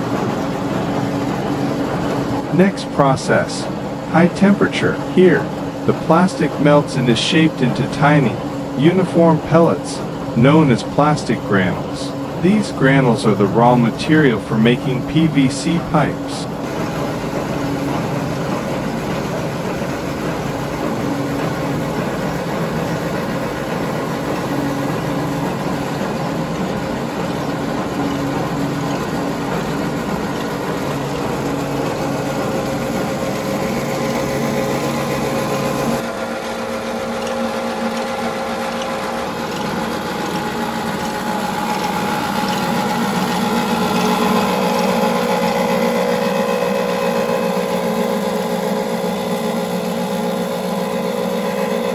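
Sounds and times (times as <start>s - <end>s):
machinery noise: 0.0s - 51.9s
motor hum: 0.0s - 51.9s.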